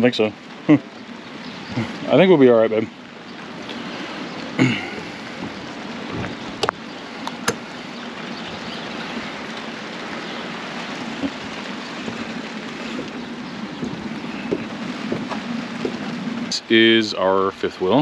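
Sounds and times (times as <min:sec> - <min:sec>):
rain: 0:00.0 - 0:18.0
wind: 0:00.0 - 0:18.0.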